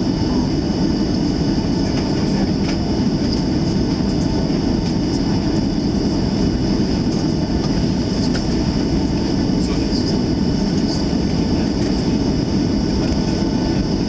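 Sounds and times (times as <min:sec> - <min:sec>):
aircraft cabin rumble: 0:00.0 - 0:14.0
high steady engine whine: 0:00.0 - 0:14.0.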